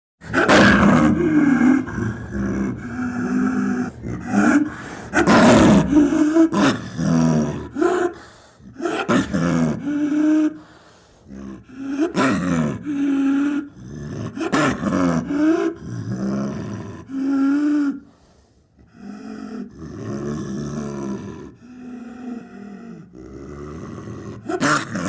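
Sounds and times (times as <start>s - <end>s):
big cat roaring and growling: 0.2s - 10.6s, 11.2s - 18.1s, 18.8s - 25.0s.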